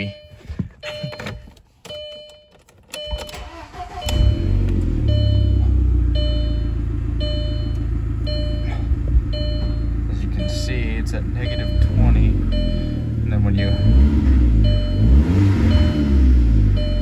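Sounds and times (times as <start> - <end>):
car engine cranking and idling: 0.0 - 17.0
car warning chime beeping: 0.0 - 17.0.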